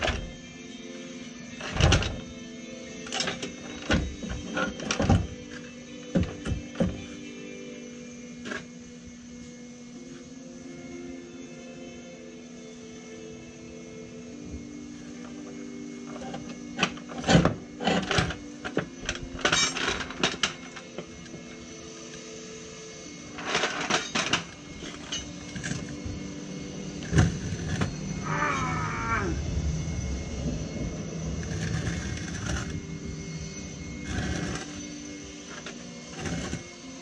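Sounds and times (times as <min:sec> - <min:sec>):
soft background music: 0:00.0 - 0:37.0.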